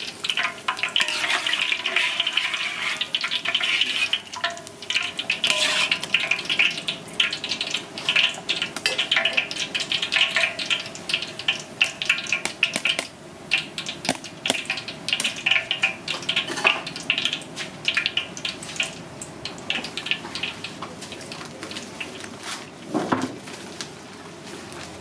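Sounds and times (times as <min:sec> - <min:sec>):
hot oil sizzling and popping: 0:00.0 - 0:25.0.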